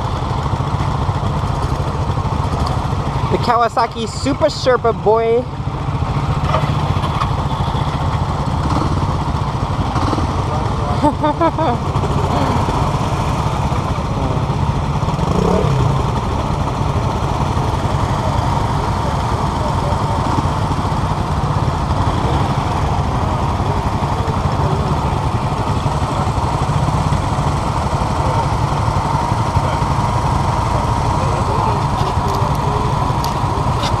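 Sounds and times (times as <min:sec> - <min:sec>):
motorcycles idling: 0:00.0 - 0:34.0.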